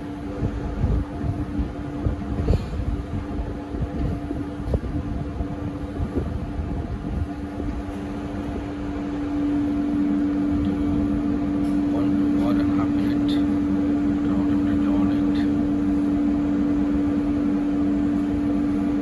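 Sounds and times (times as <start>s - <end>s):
low rumble: 0.0s - 19.0s
mechanical hum: 0.0s - 19.0s.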